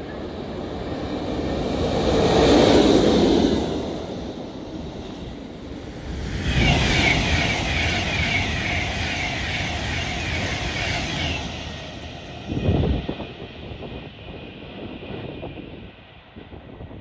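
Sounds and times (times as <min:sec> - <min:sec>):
high wavering whine: 0:00.0 - 0:15.8
train rumble: 0:00.0 - 0:17.0.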